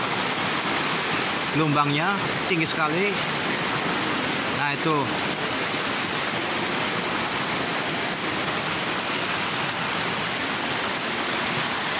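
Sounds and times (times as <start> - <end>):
river in flood roaring: 0.0 - 11.9.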